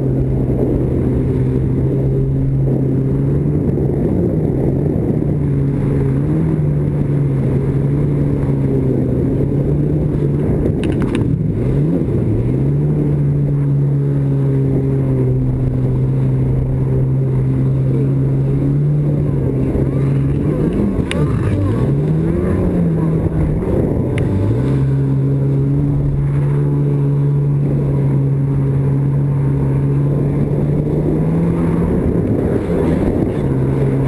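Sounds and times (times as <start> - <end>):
jet ski engine running: 0.0 - 34.0.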